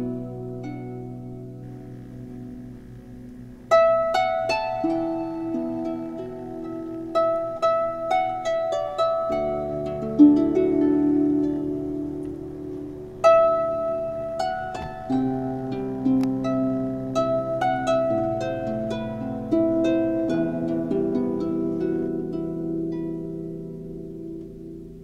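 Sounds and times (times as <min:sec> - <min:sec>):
slow plucked melody over sustained chords: 0:00.0 - 0:25.0.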